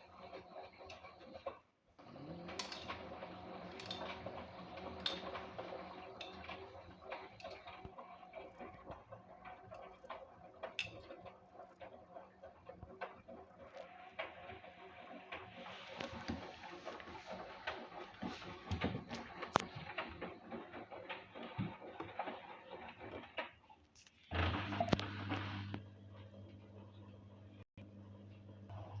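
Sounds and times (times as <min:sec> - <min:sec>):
washing machine motor hum: 0:00.0 - 0:29.0
clicks and knocks from tumbling drum: 0:00.3 - 0:25.8.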